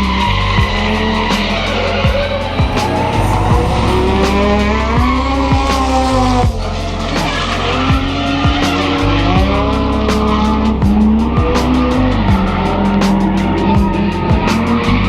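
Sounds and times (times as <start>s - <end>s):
background music: 0.0s - 15.0s
car engine revving: 0.0s - 15.0s.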